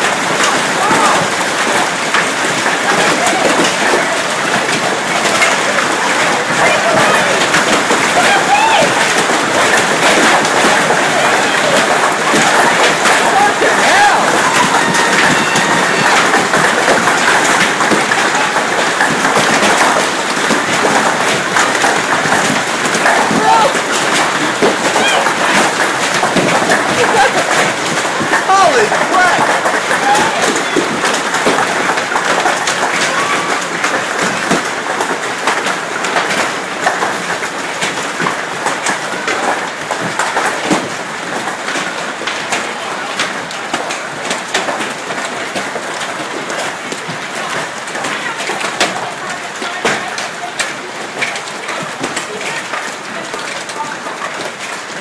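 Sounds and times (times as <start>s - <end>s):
hail pelting hard surfaces: 0.0s - 55.0s.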